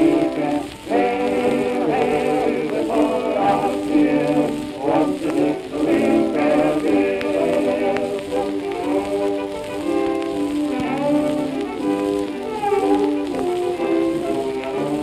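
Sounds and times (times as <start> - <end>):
music from old record: 0.0 - 15.0
record surface clicks: 0.0 - 15.0.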